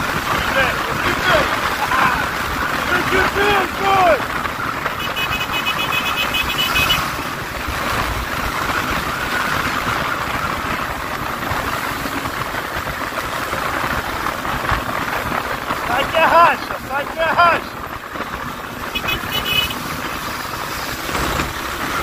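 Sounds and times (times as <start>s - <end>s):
wind rushing over microphone: 0.0s - 22.0s
motorcycle engine cruising: 4.2s - 22.0s.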